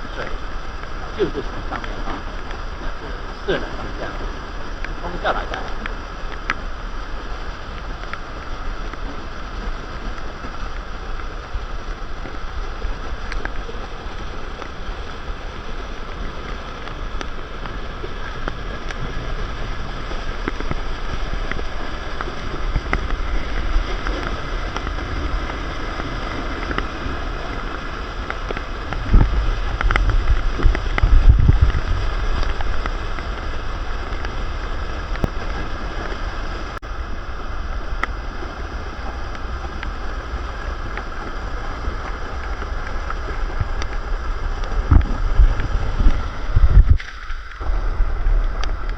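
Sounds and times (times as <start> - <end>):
floodwater rushing: 0.0 - 48.9
wind buffeting microphone: 0.0 - 48.9.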